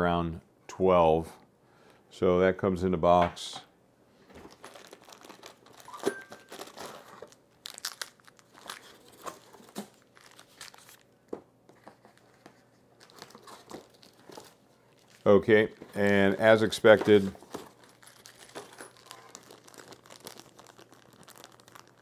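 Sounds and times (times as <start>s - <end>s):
packaging rustling and crinkling: 4.3s - 22.0s.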